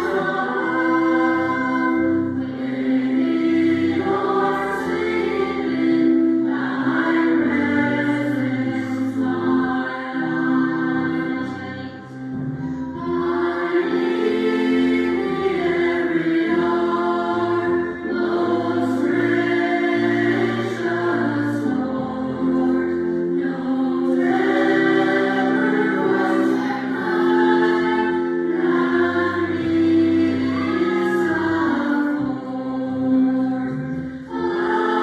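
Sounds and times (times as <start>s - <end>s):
choir singing slow song: 0.0s - 35.0s.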